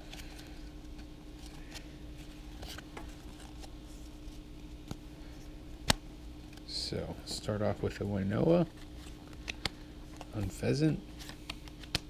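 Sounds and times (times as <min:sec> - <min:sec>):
trading cards shuffling: 0:00.0 - 0:06.7, 0:08.4 - 0:12.0
steady low hum: 0:00.0 - 0:12.0.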